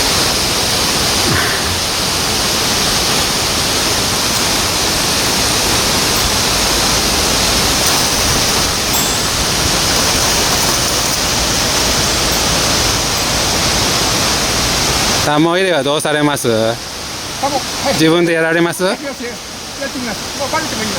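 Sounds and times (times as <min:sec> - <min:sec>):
rushing water: 0:00.0 - 0:20.9.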